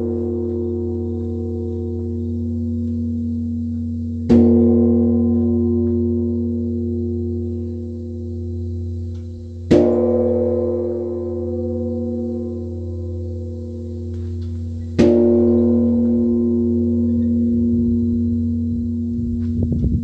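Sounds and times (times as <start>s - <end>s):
deep hum: 0.0s - 20.0s
temple bell ringing: 0.0s - 20.0s.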